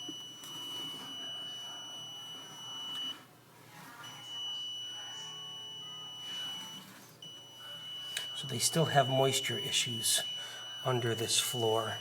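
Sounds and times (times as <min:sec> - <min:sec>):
moisture meter beep tone: 0:00.0 - 0:03.2, 0:04.0 - 0:12.0.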